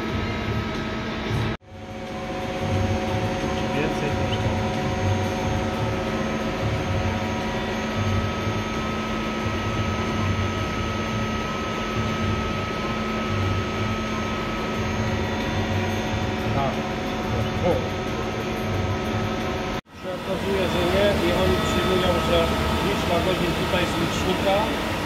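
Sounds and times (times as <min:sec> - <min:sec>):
lathe machine hum: 0:00.0 - 0:25.0
low pulsing: 0:01.2 - 0:25.0
whining tones: 0:01.9 - 0:25.0.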